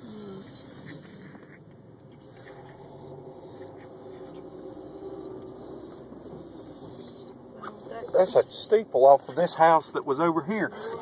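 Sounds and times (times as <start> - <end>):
car creeping in traffic: 0.0 - 11.0.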